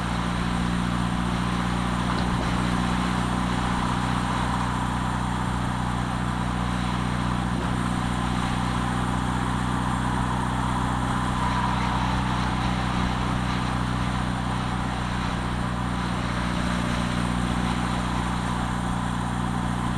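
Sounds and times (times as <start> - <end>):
car engine drone: 0.0 - 19.9
road and wind noise: 0.0 - 19.9.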